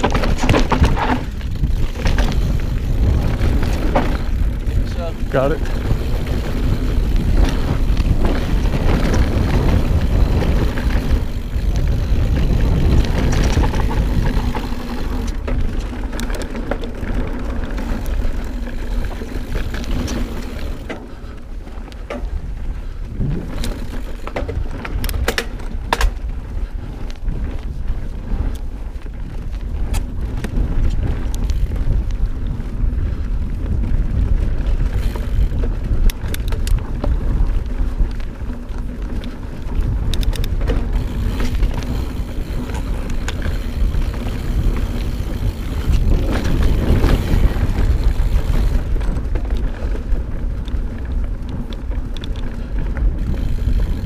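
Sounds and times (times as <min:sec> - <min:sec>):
bike rattles and clicks: 0:00.0 - 0:54.0
bike tyres on dirt: 0:00.0 - 0:54.0
wind rumble on microphone: 0:00.0 - 0:54.0.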